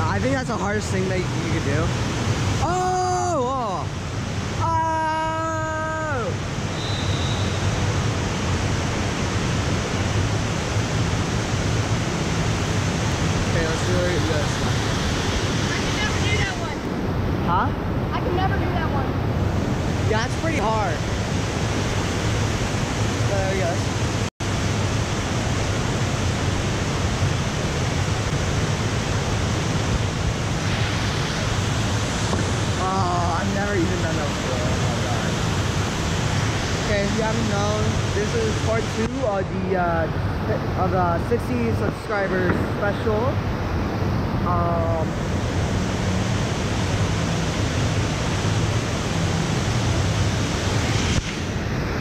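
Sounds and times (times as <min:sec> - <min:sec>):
roar of rushing water: 0:00.0 - 0:52.0.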